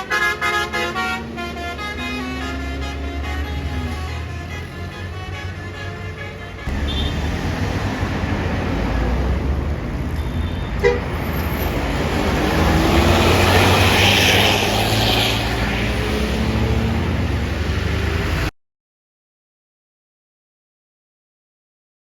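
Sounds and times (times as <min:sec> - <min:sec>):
bus engine rumbling: 0:00.0 - 0:18.5
road traffic: 0:00.0 - 0:18.5.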